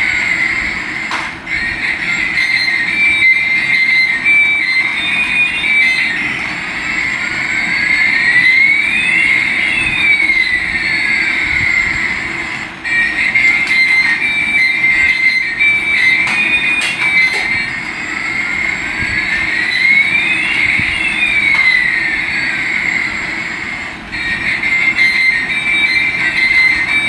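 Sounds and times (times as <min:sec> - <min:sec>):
rising and falling whistles: 0:00.0 - 0:27.0
toy electronic hum with tone: 0:00.0 - 0:27.0.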